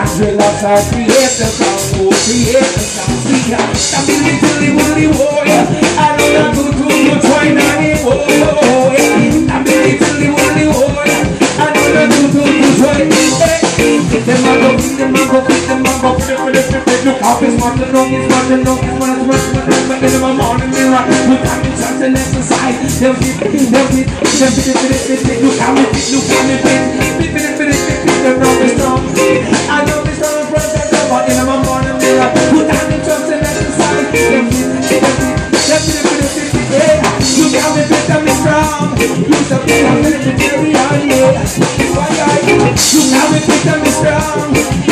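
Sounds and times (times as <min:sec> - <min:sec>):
drum kit strikes: 0:00.0 - 0:44.9
electric bass: 0:00.0 - 0:44.9
electric guitar: 0:00.0 - 0:44.9
person singing into microphone: 0:00.0 - 0:44.9
reggae band playing: 0:00.0 - 0:44.9.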